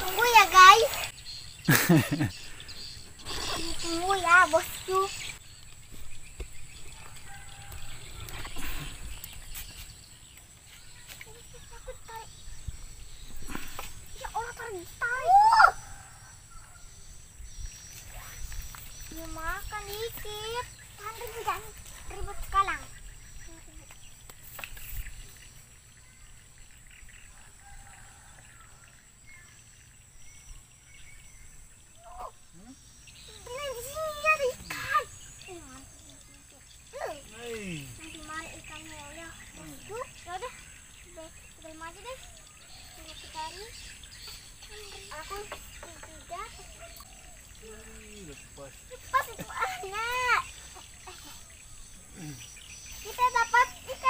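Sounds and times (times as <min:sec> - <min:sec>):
bird chirps: 0:00.0 - 0:54.0.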